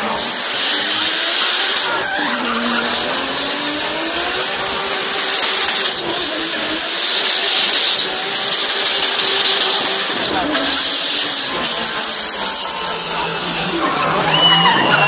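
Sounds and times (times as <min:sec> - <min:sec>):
car engine revving high: 0:00.0 - 0:15.0
tyres spinning with high hiss: 0:00.0 - 0:15.0.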